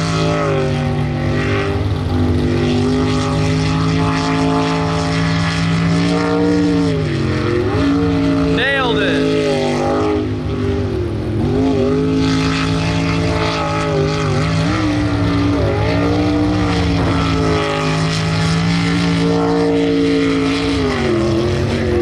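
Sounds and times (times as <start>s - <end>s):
boat engine running at high revs: 0.0s - 22.0s
water jet rushing: 0.0s - 22.0s.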